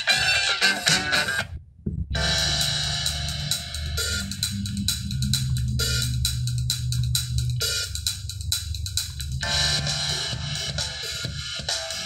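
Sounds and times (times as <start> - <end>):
music through car speakers: 2.2 - 12.0.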